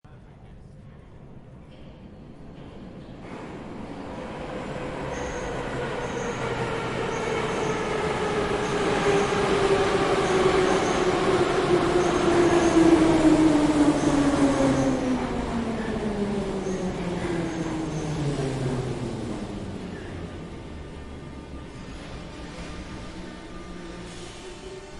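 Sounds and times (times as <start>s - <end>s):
metro train rumbling: 0.1s - 24.9s.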